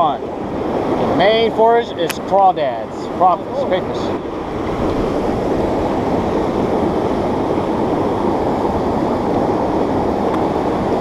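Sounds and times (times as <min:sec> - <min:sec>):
river water flowing over rocks: 0:00.0 - 0:11.0.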